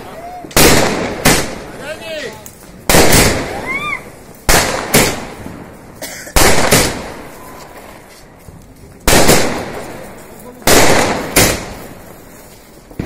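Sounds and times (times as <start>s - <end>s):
firework rockets banging: 0.0s - 13.0s.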